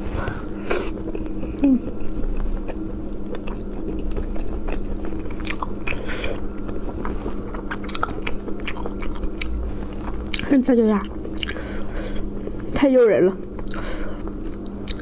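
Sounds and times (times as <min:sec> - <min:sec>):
biting and wet chewing: 0:00.4 - 0:12.8, 0:13.5 - 0:15.0.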